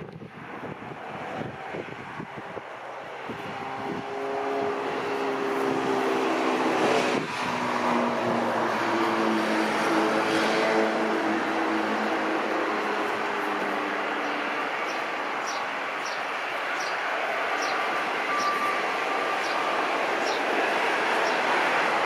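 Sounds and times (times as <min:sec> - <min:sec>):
jet airliner engines passing: 0:00.0 - 0:22.0.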